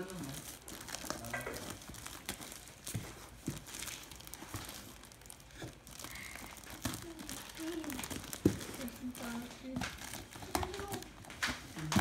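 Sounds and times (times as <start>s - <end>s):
packing tape tearing: 0.0s - 12.0s.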